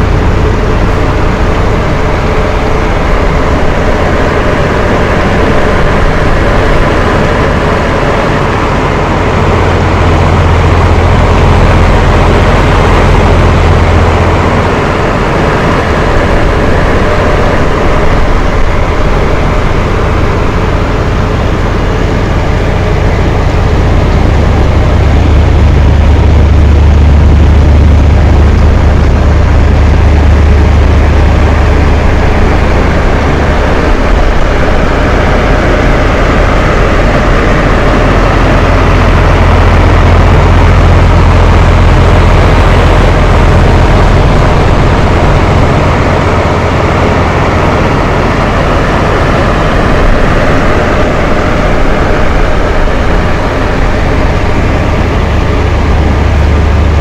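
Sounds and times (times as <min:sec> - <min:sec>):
fan heaters blowing: 0:00.0 - 0:57.0.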